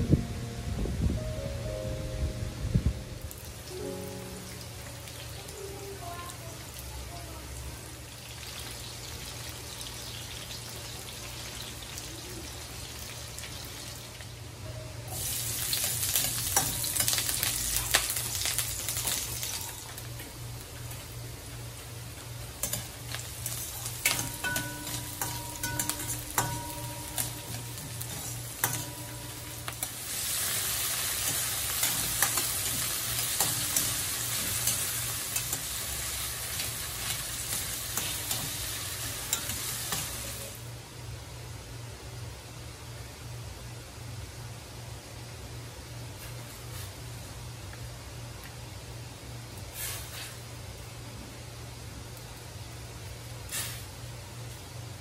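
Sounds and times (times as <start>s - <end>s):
vegetables sizzling in a wok: 3.3s - 44.0s, 44.6s - 55.0s.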